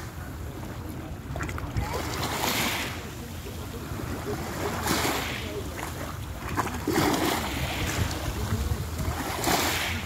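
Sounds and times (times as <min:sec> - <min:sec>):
waves washing onto pebbles: 0:00.0 - 0:10.0.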